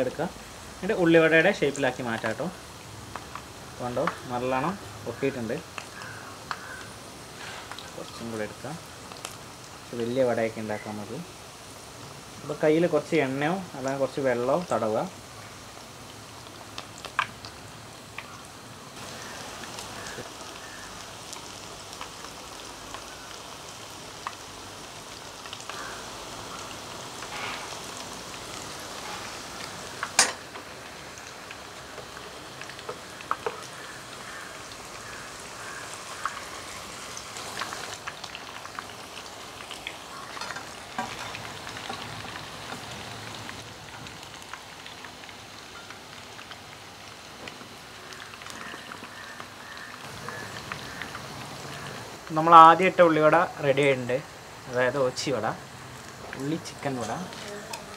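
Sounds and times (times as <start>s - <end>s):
fritters sizzling in hot oil: 0.0s - 57.9s.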